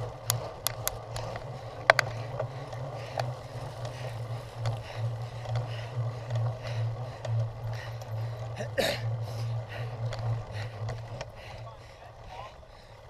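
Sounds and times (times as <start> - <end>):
bike clicks and rattles: 0.0 - 13.0
bike rumbling over rough ground: 0.0 - 13.0.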